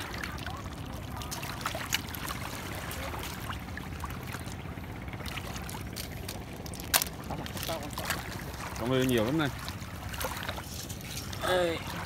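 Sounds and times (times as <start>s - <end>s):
seawater sloshing and splashing: 0.0s - 12.0s.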